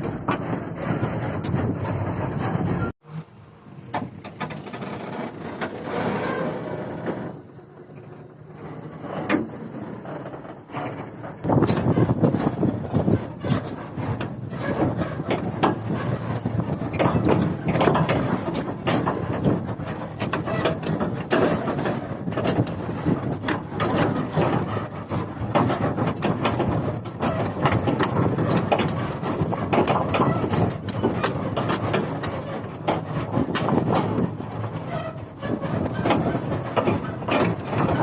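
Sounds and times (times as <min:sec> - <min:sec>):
sharp clanks and knocks: 0:00.0 - 0:38.0.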